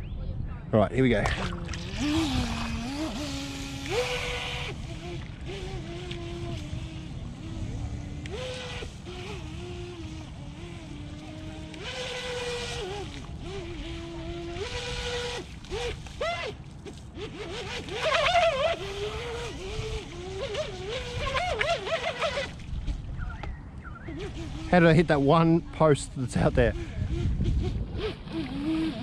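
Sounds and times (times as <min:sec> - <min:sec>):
rc boat electric motor whining: 0:01.6 - 0:29.0.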